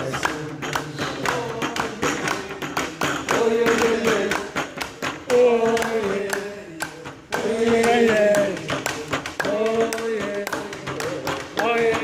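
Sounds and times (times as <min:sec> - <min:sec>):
hand claps and taps: 0:00.0 - 0:12.0
person singing long bending notes: 0:00.0 - 0:12.0.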